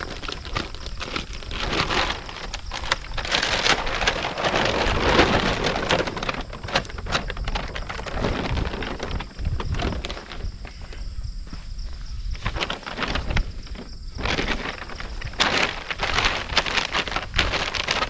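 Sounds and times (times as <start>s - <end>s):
dry leaves and twigs crackling: 0.0s - 18.0s.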